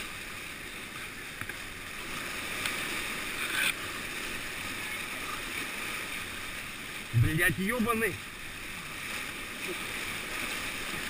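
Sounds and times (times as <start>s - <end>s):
whitewater rushing: 0.0s - 11.0s.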